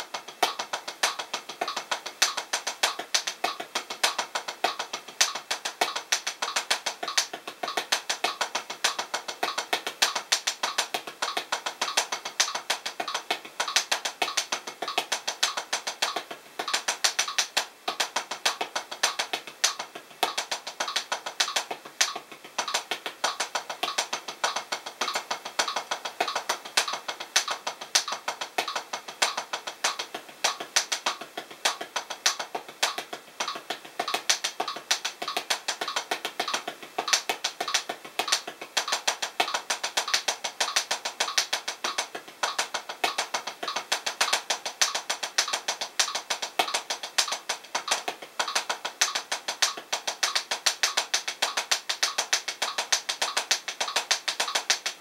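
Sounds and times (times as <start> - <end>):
drumsticks tapping a practice pad: 0.0 - 55.0.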